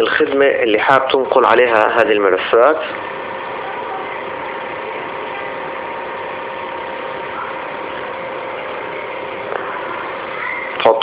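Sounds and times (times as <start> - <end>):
faint even hum: 0.0 - 11.0.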